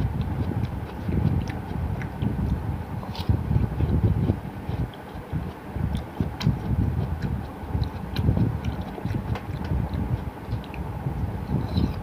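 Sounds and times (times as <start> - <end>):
low rumbling noise: 0.0 - 12.0
watermelon being chewed: 0.0 - 12.0.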